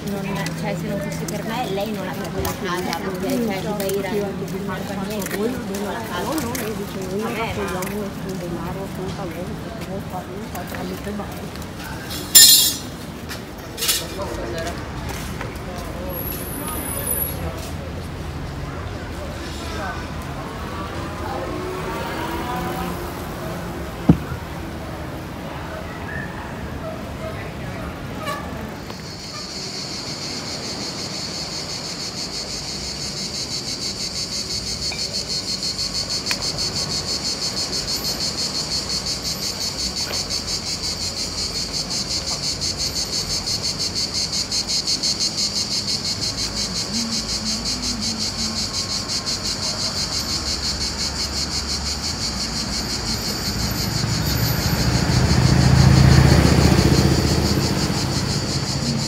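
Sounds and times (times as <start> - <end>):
cicadas buzzing: 0.0 - 25.8, 26.6 - 59.0
vehicle passing rumble: 0.0 - 30.7, 40.5 - 59.0.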